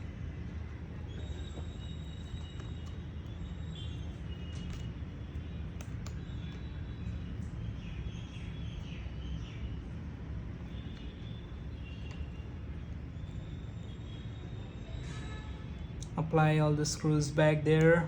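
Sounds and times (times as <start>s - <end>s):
low background rumble: 0.0s - 18.0s
faint high bird chirps: 0.9s - 16.0s.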